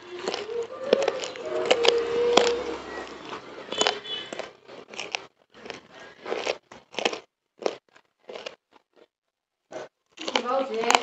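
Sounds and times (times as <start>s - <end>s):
person chewing with mouth smacks: 0.0s - 9.1s.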